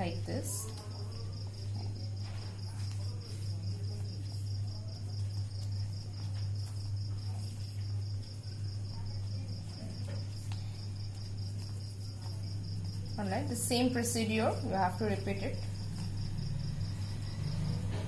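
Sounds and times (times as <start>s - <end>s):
steady low hum: 0.0s - 18.0s
cricket chirping: 0.6s - 18.0s.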